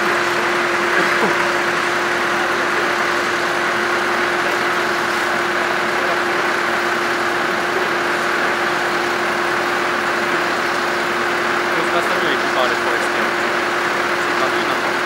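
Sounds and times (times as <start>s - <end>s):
steady hum: 0.0s - 15.0s
tractor engine running: 0.0s - 15.0s.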